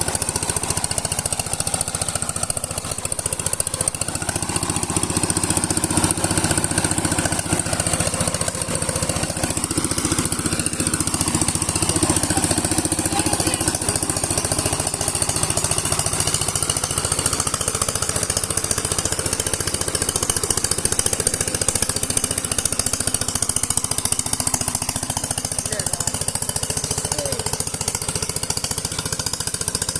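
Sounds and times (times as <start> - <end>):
diesel engine chugging: 0.0 - 29.9.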